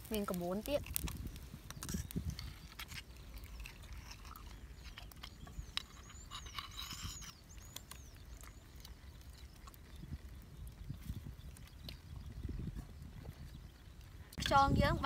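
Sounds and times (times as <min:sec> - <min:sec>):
bird chirping: 0:01.2 - 0:14.0.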